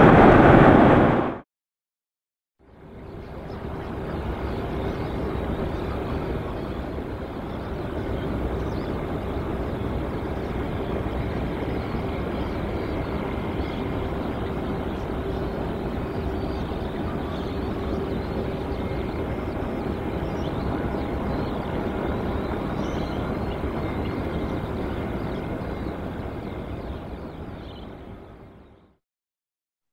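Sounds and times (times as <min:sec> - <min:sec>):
distant jet engine rumble: 0:00.0 - 0:01.4, 0:02.7 - 0:28.8.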